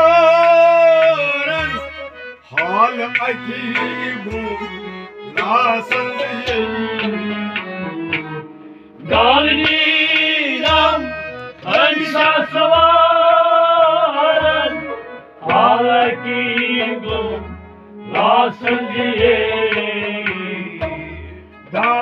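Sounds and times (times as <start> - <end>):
men singing folk song: 0.0 - 7.4, 9.0 - 17.5, 18.1 - 21.1.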